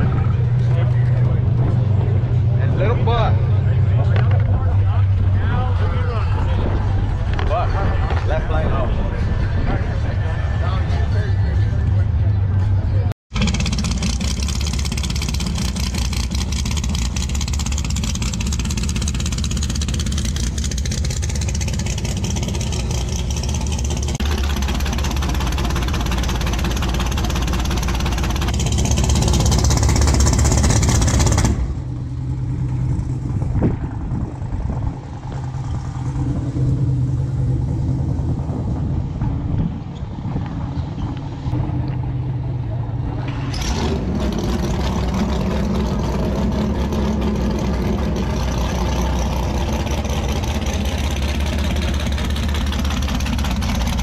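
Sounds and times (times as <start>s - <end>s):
engine rumbling idle: 0.0s - 54.0s.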